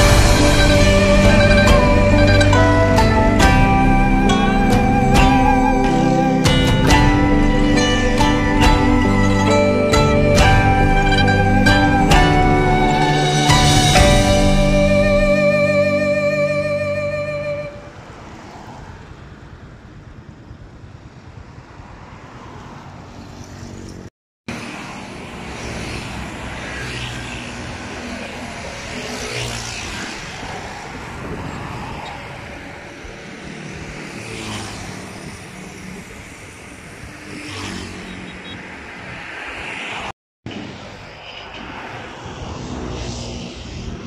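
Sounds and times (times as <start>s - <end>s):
motorbike engine passing: 0.0s - 40.0s
truck engine passing: 0.0s - 44.0s.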